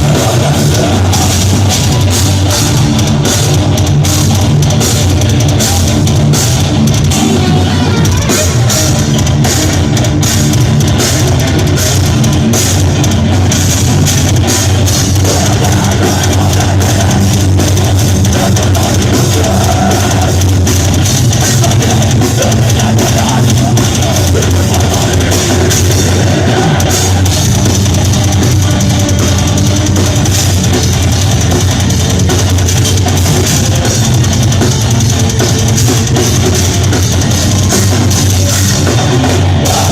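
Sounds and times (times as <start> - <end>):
death metal band playing: 0.0 - 39.9.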